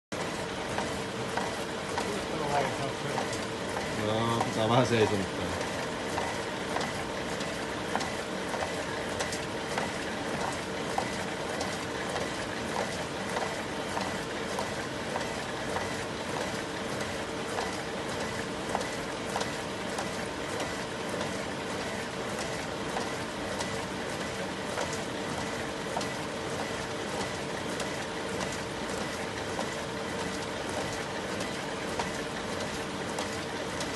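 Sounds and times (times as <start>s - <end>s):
printer whirring: 0.1s - 33.9s.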